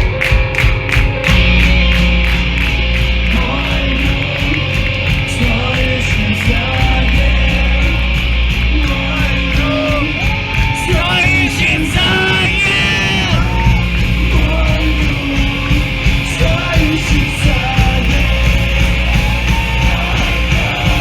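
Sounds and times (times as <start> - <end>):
distorted guitars and bass chords: 0.0 - 21.0
drums beating: 0.0 - 21.0
live punk band playing: 0.0 - 21.0.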